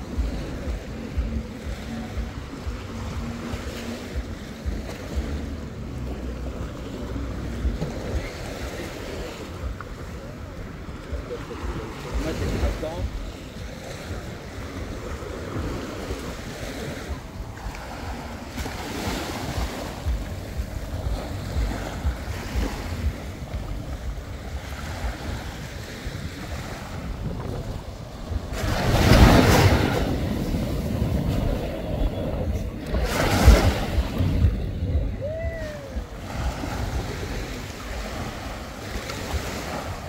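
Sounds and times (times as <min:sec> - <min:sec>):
small waves on sandy beach: 0:00.0 - 0:40.0
wind on microphone: 0:00.0 - 0:40.0.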